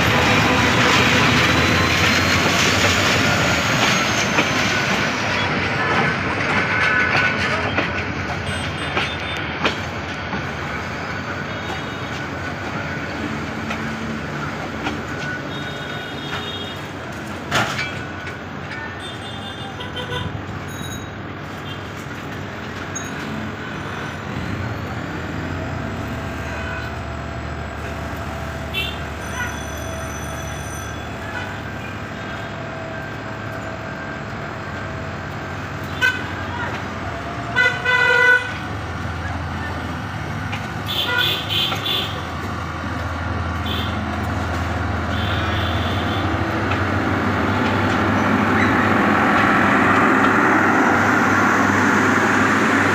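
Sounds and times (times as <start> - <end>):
sharp clicks of train wheels: 0.0 - 18.8, 24.2 - 52.9
loud train clank: 0.0 - 27.2, 27.8 - 52.9
train wheels rumbling on track: 0.0 - 52.9.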